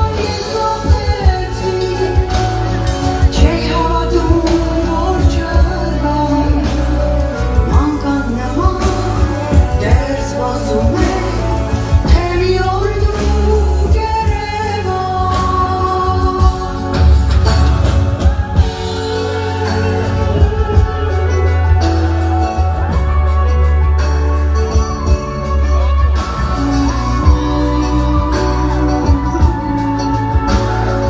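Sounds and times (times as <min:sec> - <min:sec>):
woman singing: 0:00.0 - 0:17.5, 0:18.1 - 0:31.0
band playing drums bass keyboards: 0:00.0 - 0:31.0.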